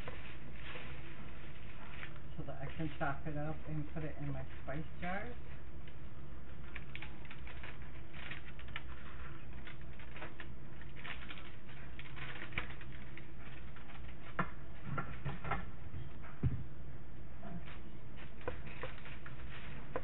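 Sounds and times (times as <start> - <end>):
dried herbs rustling and crackling: 0.0 - 14.4, 17.6 - 20.0.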